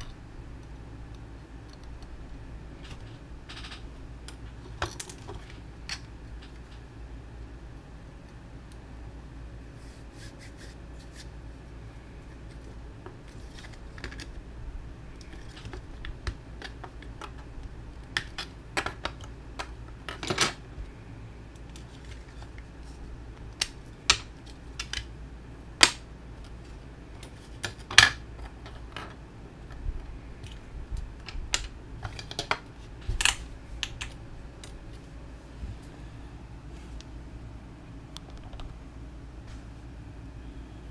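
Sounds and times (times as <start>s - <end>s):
low steady hum: 0.0s - 40.9s.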